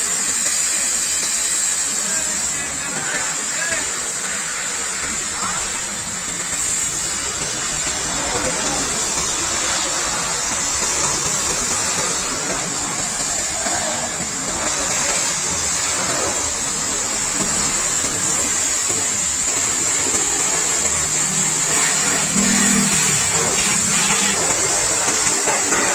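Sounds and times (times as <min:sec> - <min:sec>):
water jet spraying motorcycle: 0:00.0 - 0:25.9.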